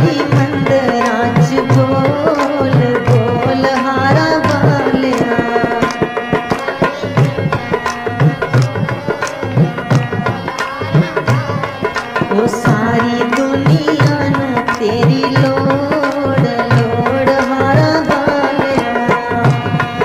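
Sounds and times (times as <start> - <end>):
sustained melodic accompaniment: 0.0 - 20.0
tabla playing a steady rhythm: 0.0 - 20.0.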